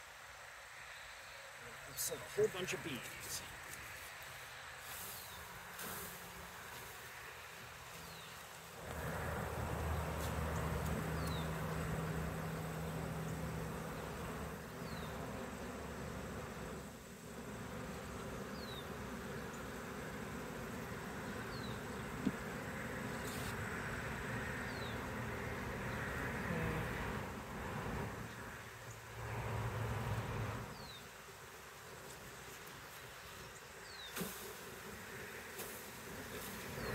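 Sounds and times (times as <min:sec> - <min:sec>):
honeybees buzzing: 0:00.8 - 0:36.9.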